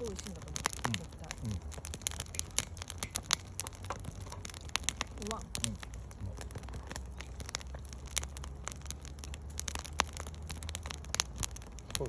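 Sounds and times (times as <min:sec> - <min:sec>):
campfire crackling and popping: 0:00.0 - 0:12.0
low steady rumble: 0:00.0 - 0:12.0.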